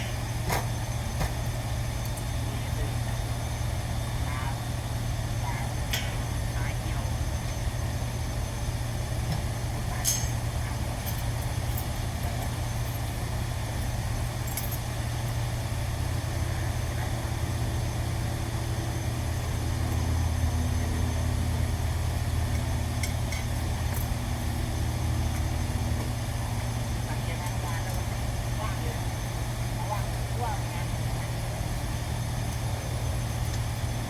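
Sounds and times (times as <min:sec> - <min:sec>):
low mechanical drone: 0:00.0 - 0:34.0.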